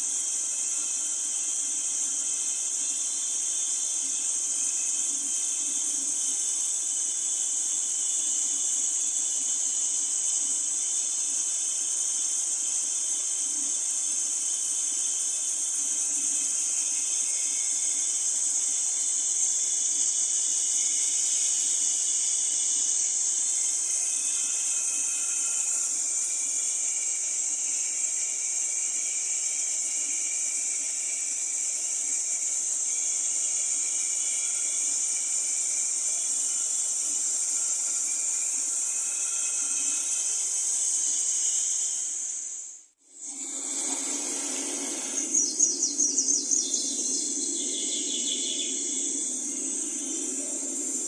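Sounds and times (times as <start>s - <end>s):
high-pitched insect chorus: 0.0s - 51.0s.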